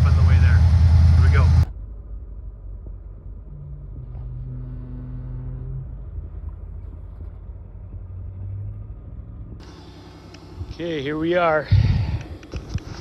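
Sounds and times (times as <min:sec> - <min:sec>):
engine hum dropping in pitch: 0:00.0 - 0:13.0
vehicle low rumble: 0:00.0 - 0:13.0.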